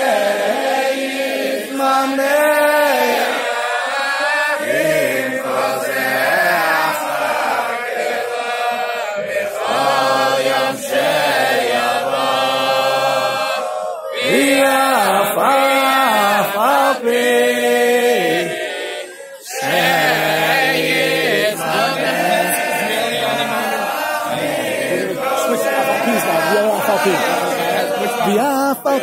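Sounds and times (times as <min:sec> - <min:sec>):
men singing in unison: 0:00.0 - 0:29.0.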